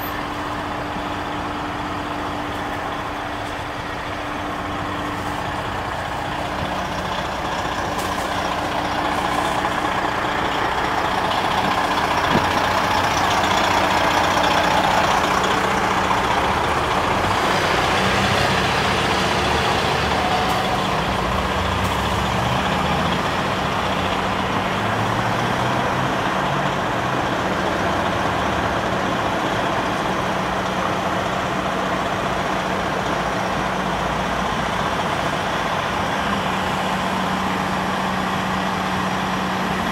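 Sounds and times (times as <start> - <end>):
fire truck engine running: 0.0 - 39.9.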